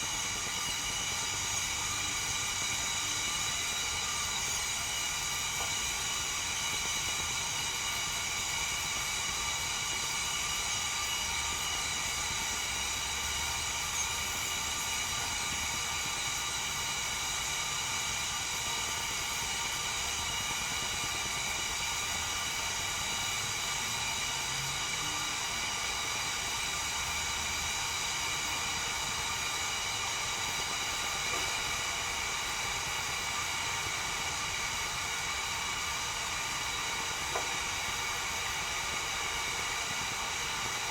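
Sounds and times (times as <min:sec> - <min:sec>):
kettle hissing: 0:00.0 - 0:40.9.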